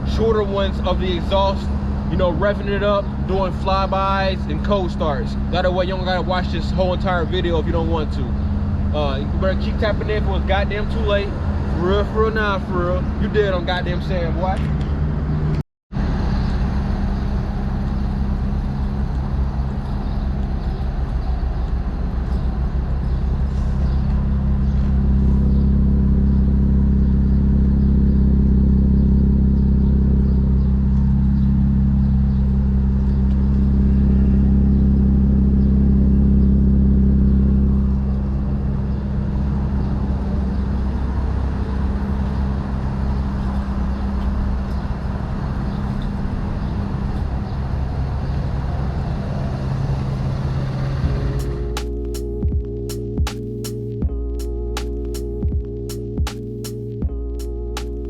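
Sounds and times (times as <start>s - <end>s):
car engine running steadily: 0.0s - 58.0s.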